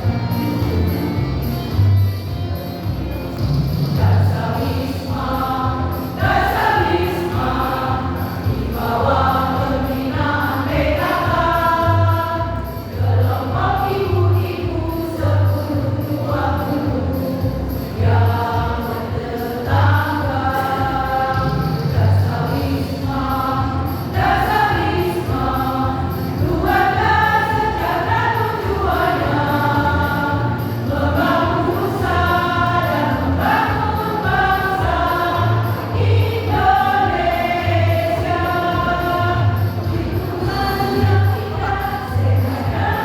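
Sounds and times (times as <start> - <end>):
choir singing: 3.9 - 43.0.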